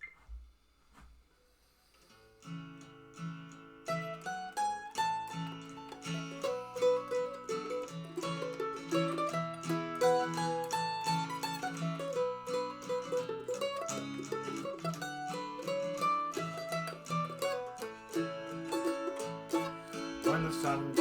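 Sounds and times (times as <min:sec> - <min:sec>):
acoustic guitar: 0:00.0 - 0:21.0
mandolin: 0:02.5 - 0:21.0.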